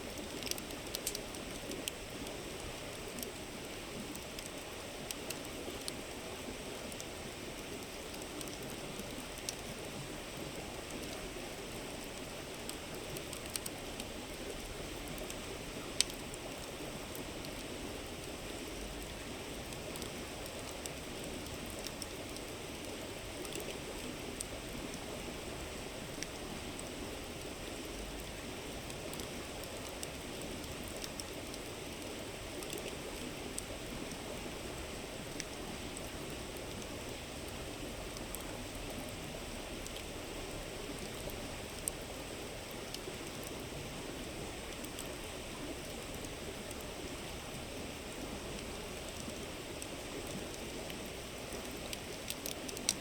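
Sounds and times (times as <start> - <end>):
campfire crackling and popping: 0.0 - 25.3, 26.0 - 43.7, 48.5 - 53.0.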